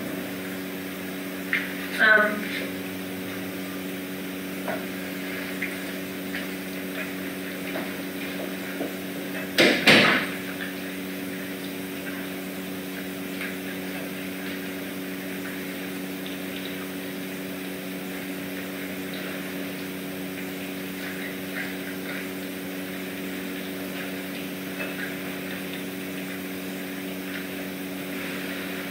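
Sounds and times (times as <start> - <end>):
mechanical hum with hiss: 0.0 - 28.9.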